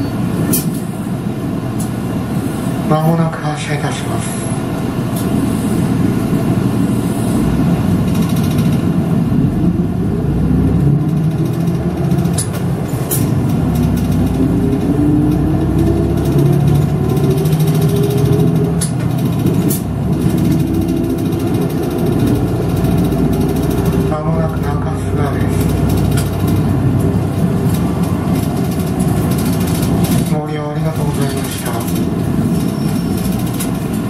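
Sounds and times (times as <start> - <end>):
bus diesel engine accelerating: 0.0 - 34.0.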